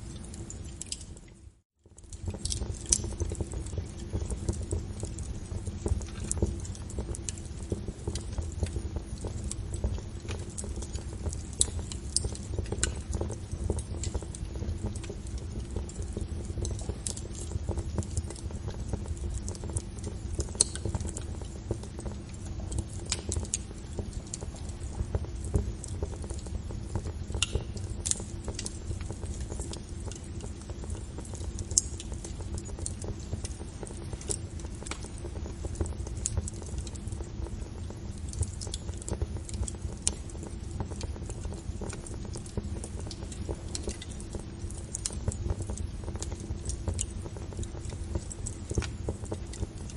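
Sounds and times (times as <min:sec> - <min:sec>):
fire crackling and popping: 0:00.0 - 0:49.9
low rumble of flames: 0:00.0 - 0:49.9.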